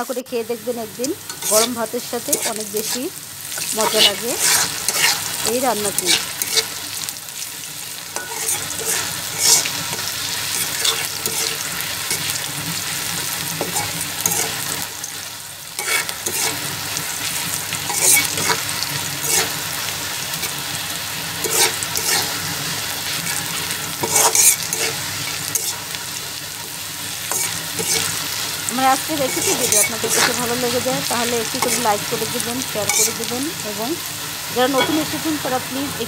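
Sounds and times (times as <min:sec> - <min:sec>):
onions sizzling in hot oil: 0:00.0 - 0:36.0
spatula scraping pan: 0:01.1 - 0:07.4, 0:08.2 - 0:12.8, 0:13.4 - 0:15.2, 0:15.8 - 0:20.6, 0:21.4 - 0:33.4, 0:34.6 - 0:35.3.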